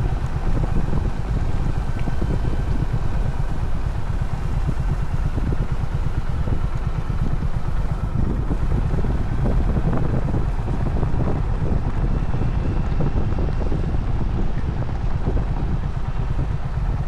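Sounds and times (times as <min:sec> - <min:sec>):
motorcycle engine running: 0:00.0 - 0:17.0
road and air noise: 0:00.0 - 0:17.0.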